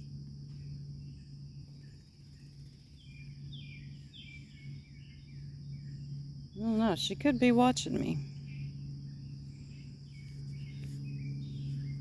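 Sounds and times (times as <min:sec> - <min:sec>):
bird chirping: 0:00.0 - 0:12.0
insects droning: 0:00.0 - 0:12.0
low steady hum: 0:00.0 - 0:12.0.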